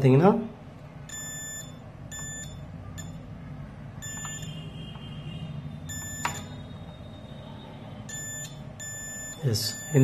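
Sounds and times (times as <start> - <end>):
multimeter buzzer beeps: 1.1 - 3.3, 4.0 - 10.0.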